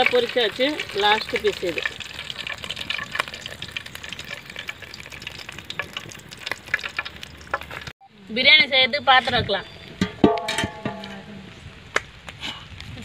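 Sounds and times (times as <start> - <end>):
hot oil sizzling and popping: 0.0 - 8.0, 9.1 - 13.0.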